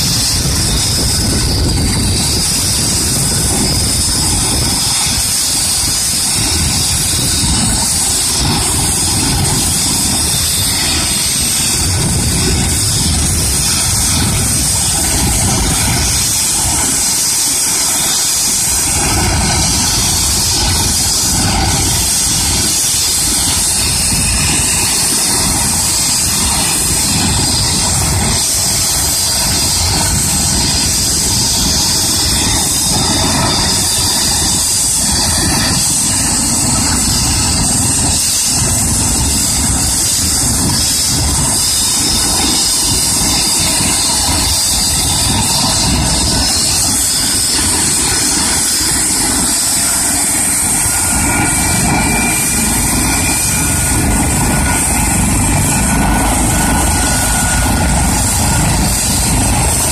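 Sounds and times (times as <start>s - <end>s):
helicopter turbine engines running: 0.0s - 59.9s.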